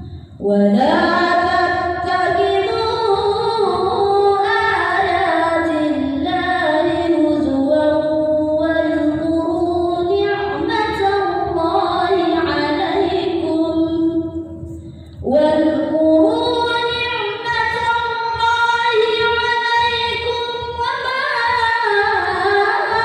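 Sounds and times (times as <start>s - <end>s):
person reciting melodically: 0.0s - 23.0s.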